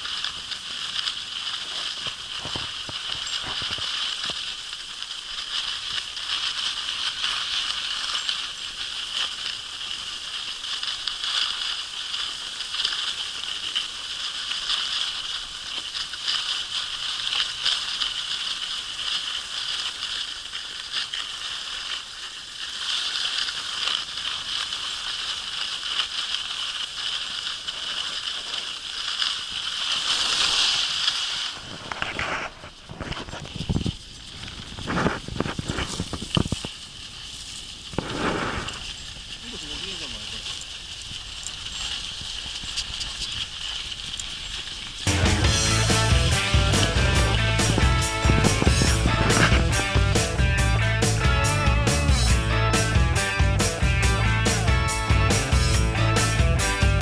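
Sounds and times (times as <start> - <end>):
skis scraping over snow: 0.0 - 57.0.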